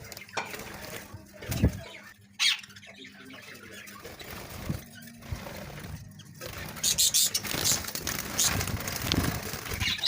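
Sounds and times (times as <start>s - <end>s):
birds fluttering in cage: 0.0s - 10.0s.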